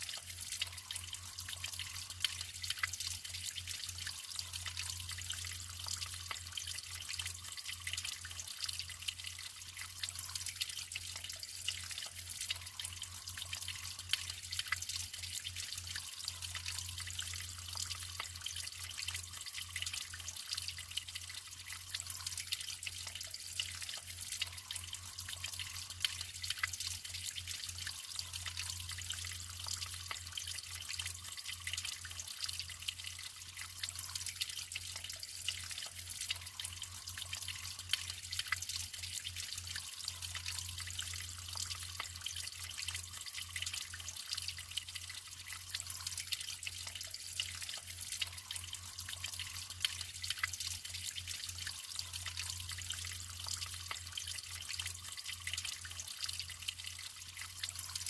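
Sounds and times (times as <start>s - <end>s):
small drips pattering: 0.0s - 58.0s
water trickling and splashing: 0.0s - 58.0s.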